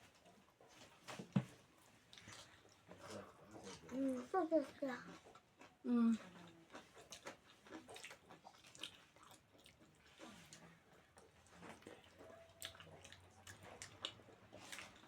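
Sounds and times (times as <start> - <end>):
people chewing: 1.8 - 15.0.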